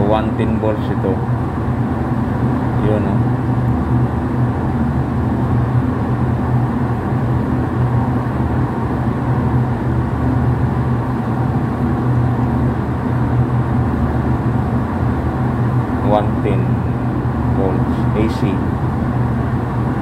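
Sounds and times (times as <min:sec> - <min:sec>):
low machine hum with rumbling: 0:00.0 - 0:20.0.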